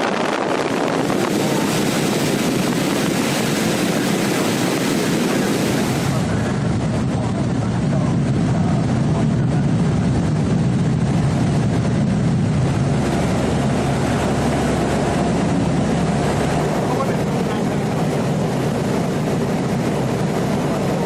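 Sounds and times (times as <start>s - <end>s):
aircraft engine drone: 0.0s - 21.0s.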